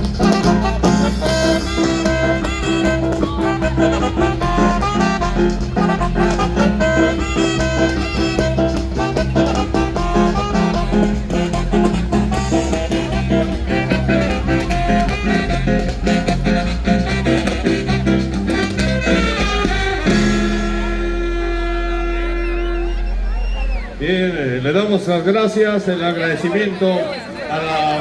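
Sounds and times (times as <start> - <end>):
brass band playing latin dance tune: 0.0 - 26.0.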